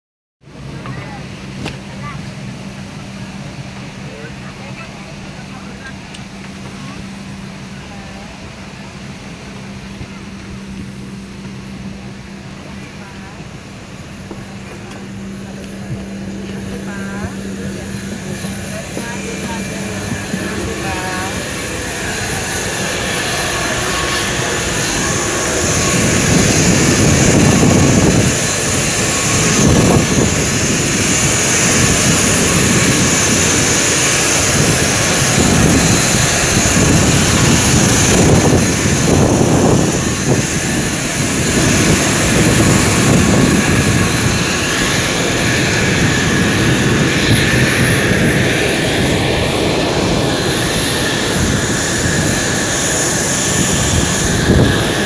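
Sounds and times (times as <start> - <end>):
low jet rumble: 0.4 - 55.0
jet engine whine and hiss: 0.5 - 55.0.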